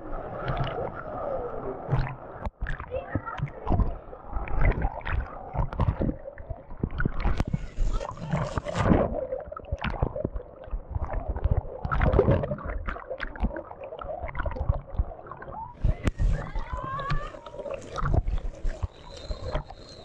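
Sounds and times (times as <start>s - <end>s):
water sloshing and splashing: 0.0s - 20.0s.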